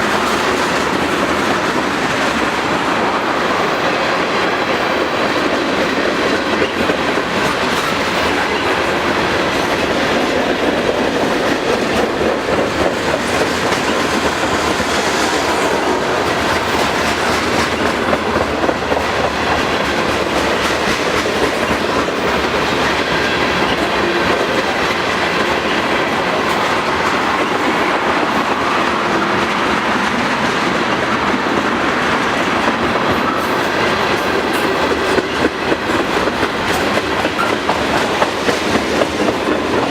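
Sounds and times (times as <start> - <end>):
freight train wheels clicking: 0.0 - 39.9.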